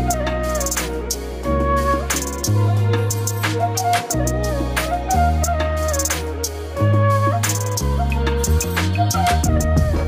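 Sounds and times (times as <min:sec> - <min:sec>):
melody over bass notes: 0:00.0 - 0:10.0.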